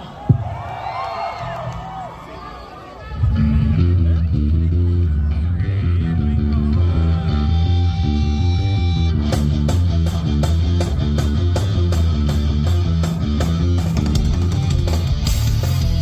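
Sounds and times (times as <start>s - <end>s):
distorted electric guitar riff: 3.2s - 16.0s
rock band playing live: 3.2s - 16.0s.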